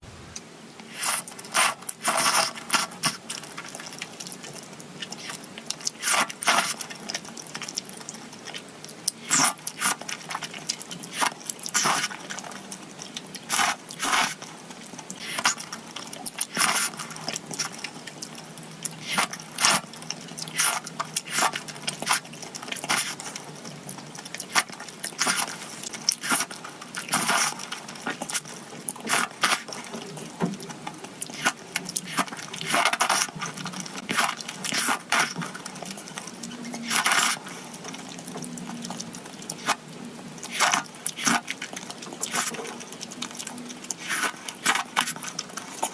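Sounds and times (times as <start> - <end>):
crunching and chewing food: 0.8 - 45.9.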